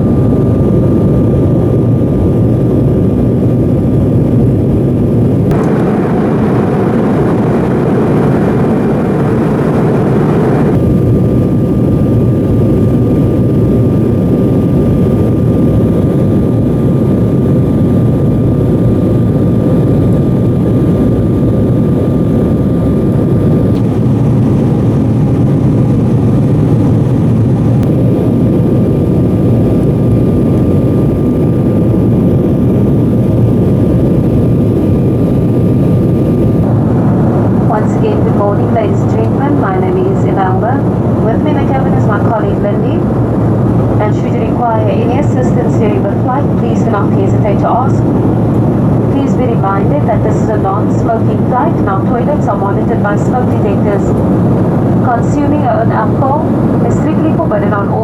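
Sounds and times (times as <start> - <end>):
jet engines rumbling: 0.0 - 58.0
thin steady whine: 4.4 - 13.1, 14.1 - 58.0.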